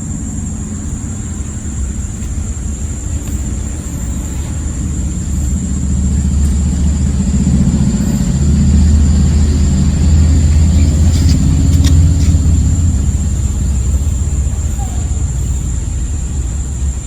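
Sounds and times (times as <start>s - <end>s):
high-pitched whine: 0.0s - 17.0s
vehicle engine rumbling: 0.0s - 17.0s.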